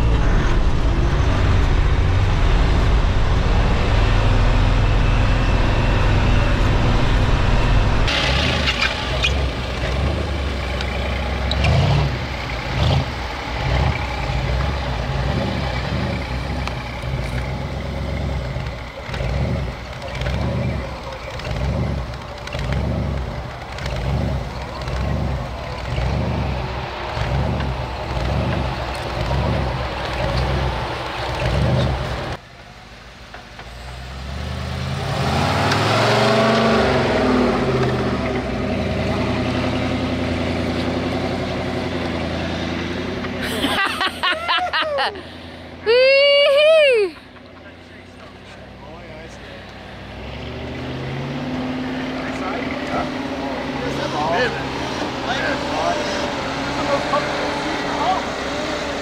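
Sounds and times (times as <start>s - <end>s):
off-road vehicle engines: 0.0s - 59.0s.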